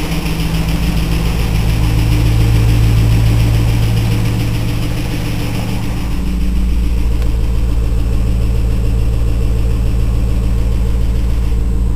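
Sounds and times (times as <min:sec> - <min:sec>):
car engine idling: 0:00.0 - 0:11.9
engine ticking: 0:00.0 - 0:11.9.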